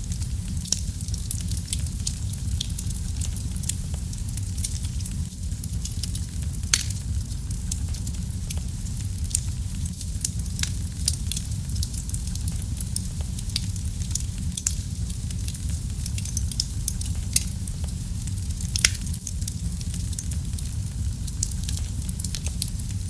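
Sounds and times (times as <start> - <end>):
loud fire pops: 0.0 - 23.0
wood fire crackling: 0.0 - 23.0.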